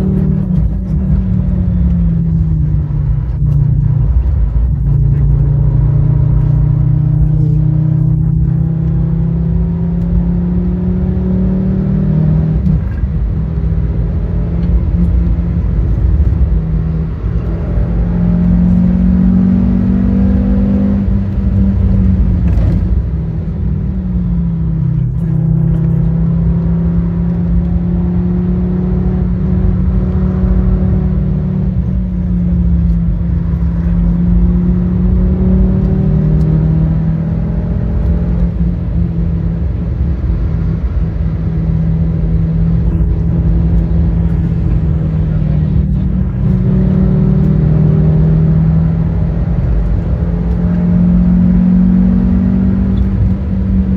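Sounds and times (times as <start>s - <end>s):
car engine revving under load: 0.0s - 53.9s
road and tyre rumble: 0.0s - 53.9s.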